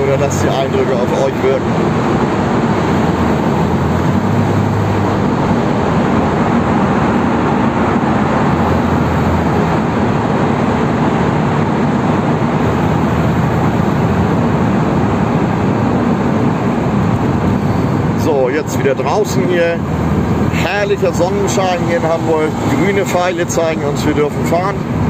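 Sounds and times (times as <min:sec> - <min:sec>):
car engine hum: 0:00.0 - 0:25.0
tyre and road noise: 0:00.0 - 0:25.0.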